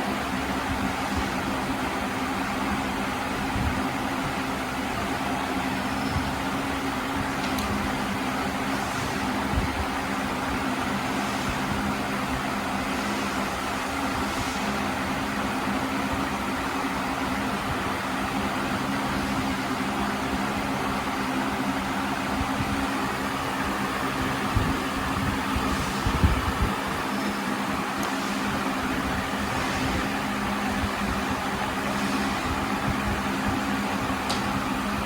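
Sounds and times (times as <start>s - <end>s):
machine hum with hiss: 0.0s - 35.0s.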